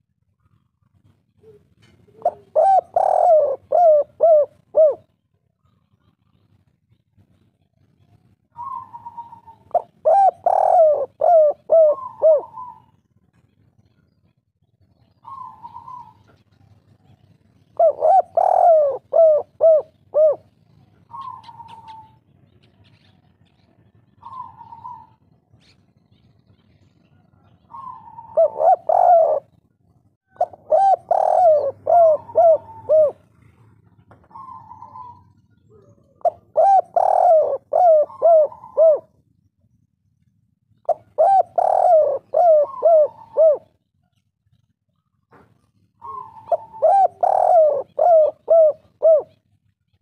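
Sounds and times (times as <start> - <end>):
dove cooing: 0.5 - 6.4, 7.3 - 13.0, 15.0 - 23.2, 23.8 - 29.7, 30.3 - 39.2, 40.8 - 44.2, 44.9 - 49.6.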